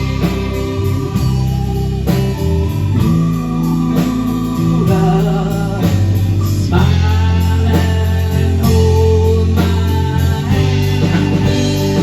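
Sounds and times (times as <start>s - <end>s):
guitar chords: 0.0s - 12.0s
held bass notes: 0.0s - 12.0s.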